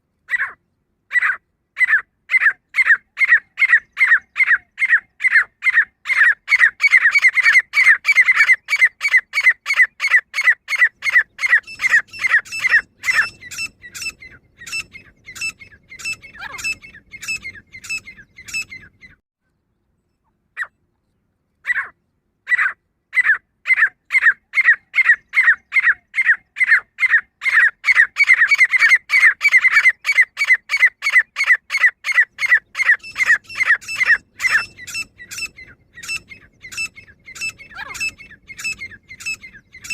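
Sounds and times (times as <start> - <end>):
francolin calling: 0.3 - 19.2, 22.5 - 39.9.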